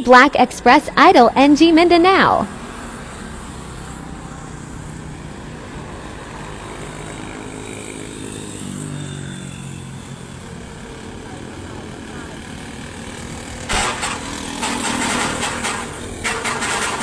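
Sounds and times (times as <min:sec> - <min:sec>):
traffic noise: 0:00.0 - 0:17.0
vehicle engine running: 0:01.6 - 0:17.0.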